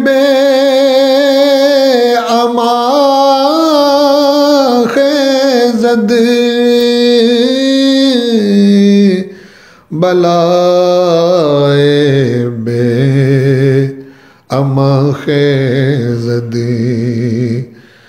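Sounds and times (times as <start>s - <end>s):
man singing devotional chant: 0.0s - 18.0s.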